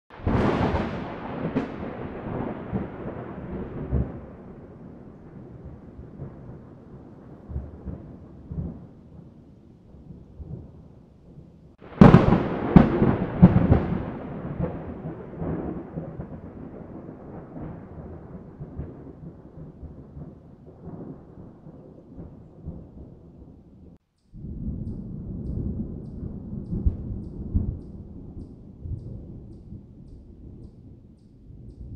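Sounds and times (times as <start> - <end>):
thunder crack: 0.1 - 9.3, 9.9 - 31.9
thunder rumbling: 0.1 - 31.9.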